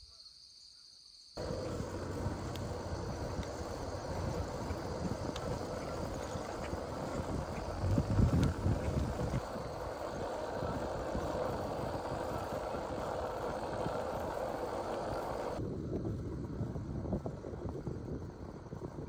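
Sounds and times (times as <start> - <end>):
bicycle tyres rolling on asphalt: 1.4 - 19.0
wind gusting on microphone: 1.4 - 19.0.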